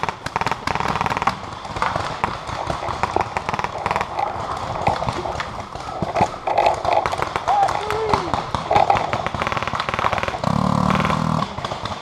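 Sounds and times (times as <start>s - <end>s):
paintball markers firing: 0.0s - 12.0s.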